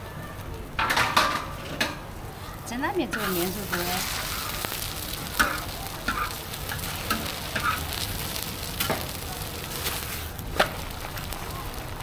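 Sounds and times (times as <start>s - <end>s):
batter sizzling on a griddle: 0.0s - 12.0s.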